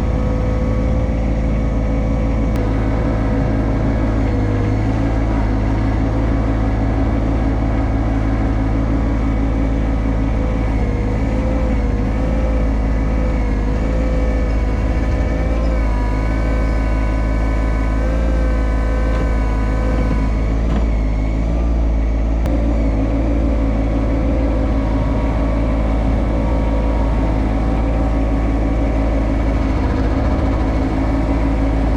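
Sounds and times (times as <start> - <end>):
diesel tractor engine running: 0.0 - 31.9.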